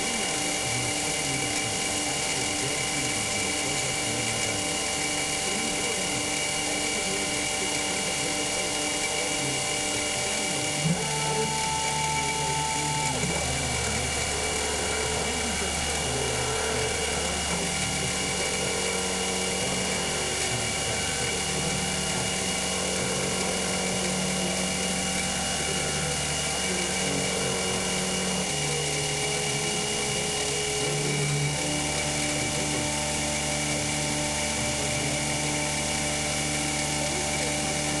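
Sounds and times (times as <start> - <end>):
milling machine spindle whine: 0.0 - 38.0.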